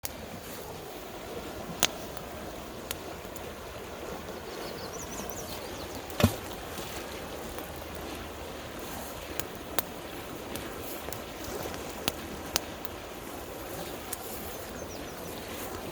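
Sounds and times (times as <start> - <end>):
campfire popping and crackling: 0.0 - 15.9
river water flowing: 0.0 - 15.9.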